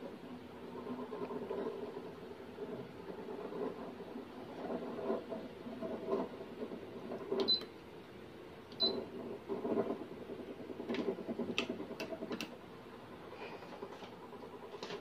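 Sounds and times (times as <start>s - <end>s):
tower fan whirring: 0.0s - 15.0s.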